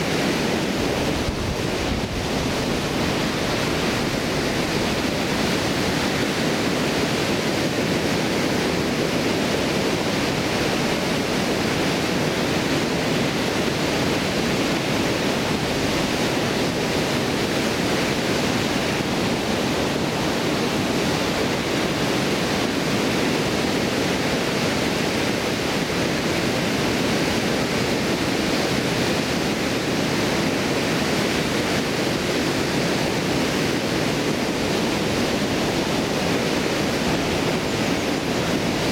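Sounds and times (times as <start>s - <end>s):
water rushing over weir: 0.0s - 38.9s.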